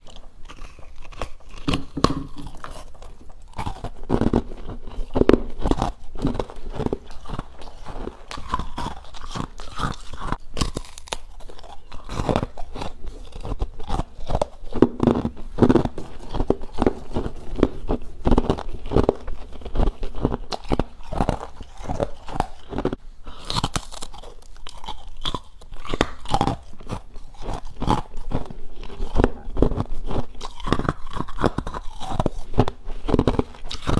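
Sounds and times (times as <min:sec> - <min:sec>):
person chewing crunchy frost: 0:00.0 - 0:33.9.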